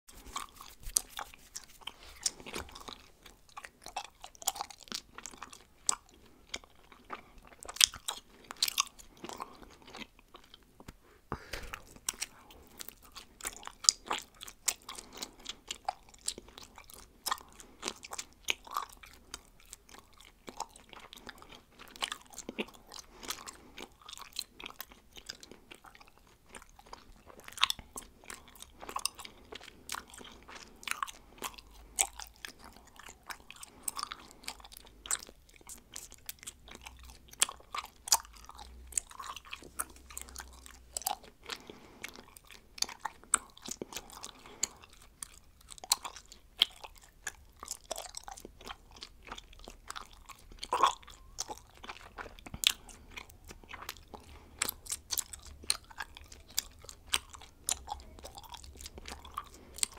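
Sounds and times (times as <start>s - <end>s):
bubblegum chewing clicks and smacks: 0.1s - 59.9s.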